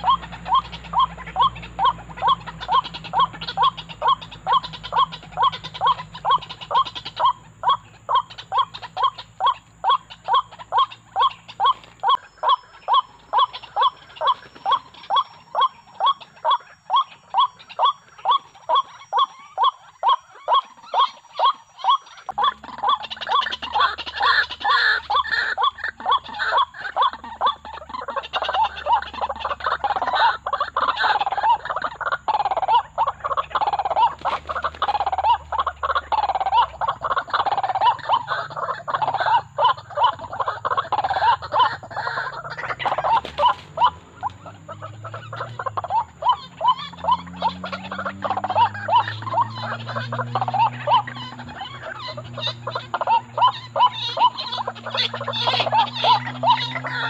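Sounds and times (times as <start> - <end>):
waterhens calling: 0.0 - 57.0.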